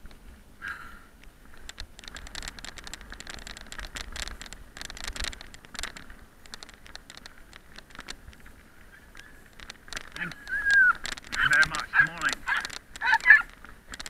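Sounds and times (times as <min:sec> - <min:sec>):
bicycle tyres crunching on gravel: 0:00.0 - 0:14.0.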